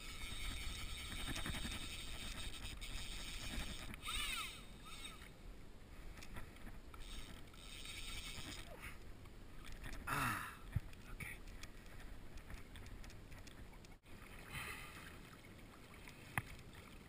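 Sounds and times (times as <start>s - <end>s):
water swishes: 0.0s - 17.0s.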